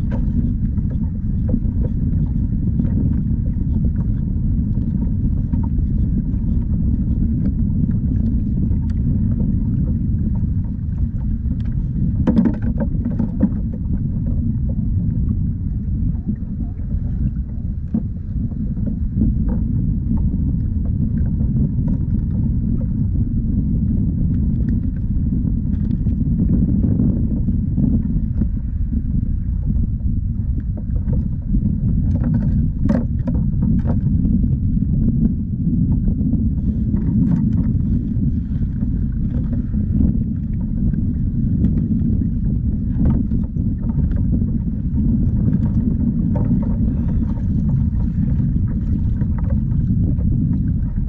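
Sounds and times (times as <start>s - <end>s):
water against kayak hull: 0.0s - 51.0s
wind on microphone: 0.0s - 51.0s.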